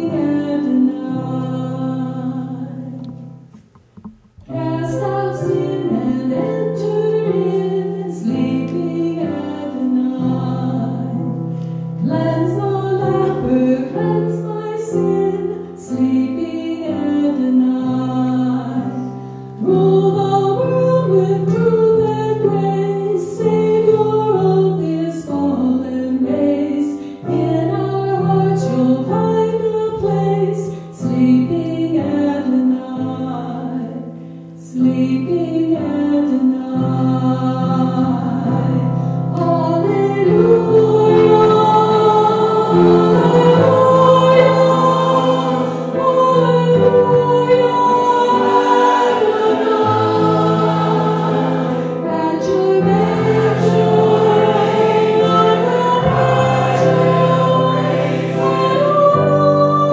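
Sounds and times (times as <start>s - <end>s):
choir singing in harmony: 4.5s - 11.4s, 12.0s - 33.8s, 34.7s - 59.9s.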